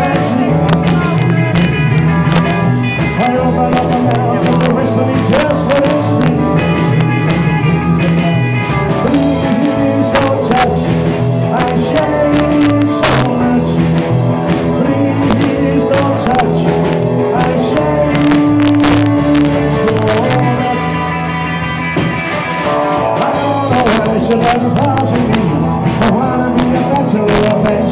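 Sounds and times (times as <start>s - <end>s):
live rock band playing: 0.0s - 27.9s.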